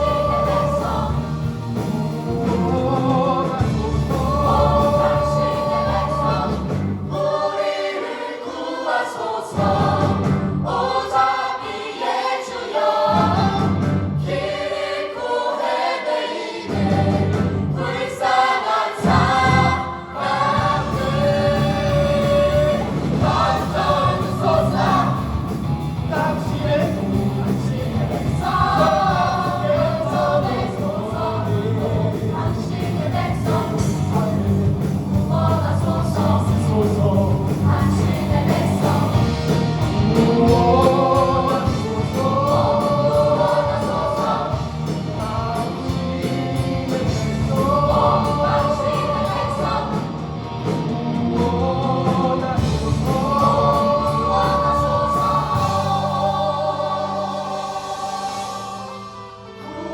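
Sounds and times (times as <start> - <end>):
choir singing worship song: 0.0 - 59.9.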